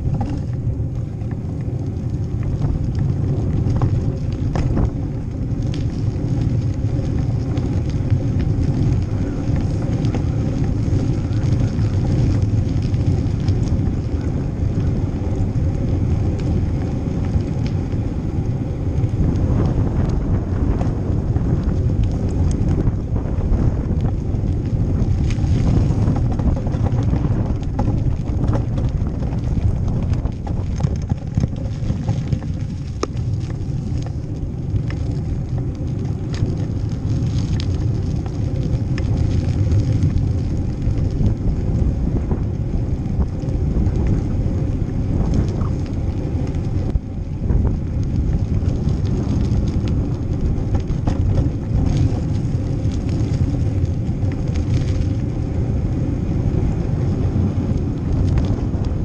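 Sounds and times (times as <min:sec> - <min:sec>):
bike clicks and rattles: 0:00.0 - 0:59.0
low rumble and wind noise: 0:00.0 - 0:59.0.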